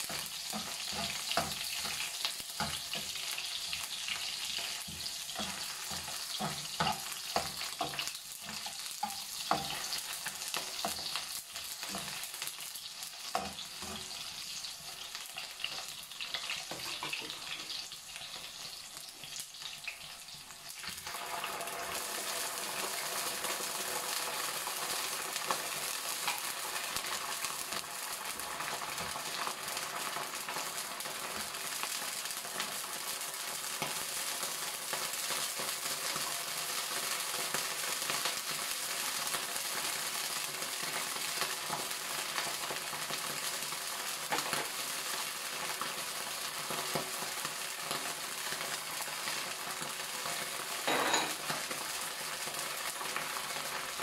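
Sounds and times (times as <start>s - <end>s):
food sizzling in wok: 0.0s - 54.0s.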